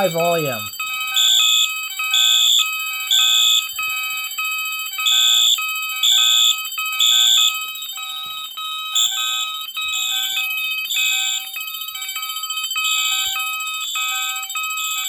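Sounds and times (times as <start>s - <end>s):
fire alarm horn blasts: 0.0s - 15.0s.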